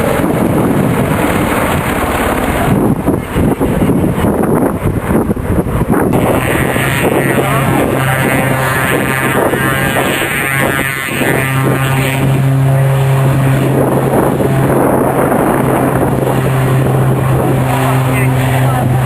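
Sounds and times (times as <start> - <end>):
aircraft engine noise: 0.0 - 19.0.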